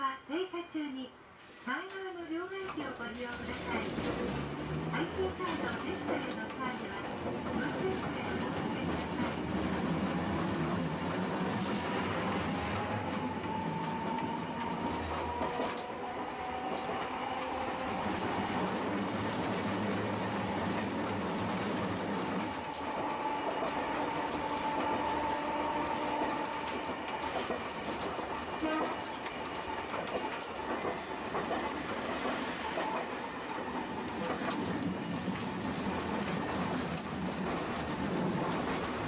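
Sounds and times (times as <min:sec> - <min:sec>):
track clicks and clanks: 0:01.9 - 0:39.0
wheel and rail rumble: 0:02.6 - 0:39.0
tram motor whine: 0:03.6 - 0:39.0.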